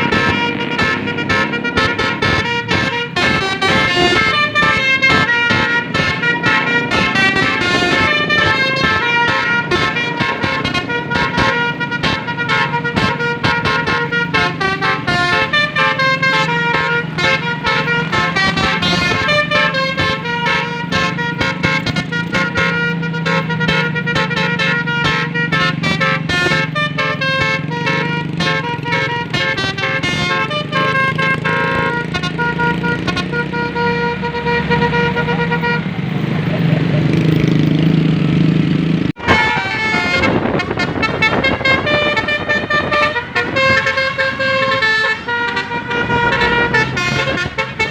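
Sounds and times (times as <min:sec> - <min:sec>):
bus horn playing a melody: 0:00.0 - 0:36.1, 0:39.2 - 0:47.9.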